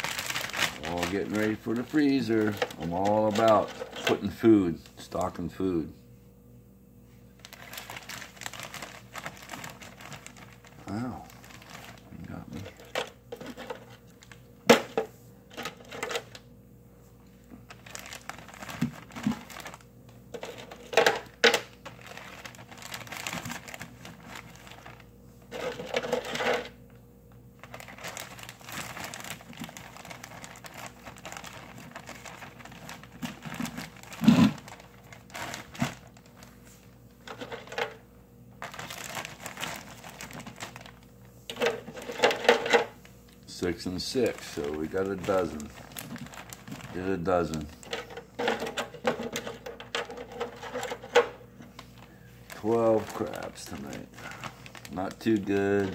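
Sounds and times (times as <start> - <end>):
plastic bags crinkling: 0.0 - 4.5, 7.3 - 16.4, 17.5 - 26.8, 27.5 - 55.9.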